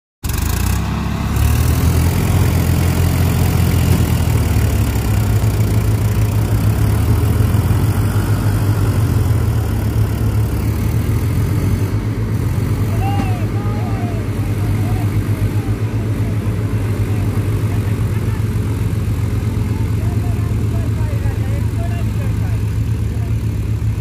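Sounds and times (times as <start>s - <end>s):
tractor engine under load: 0.2s - 24.0s.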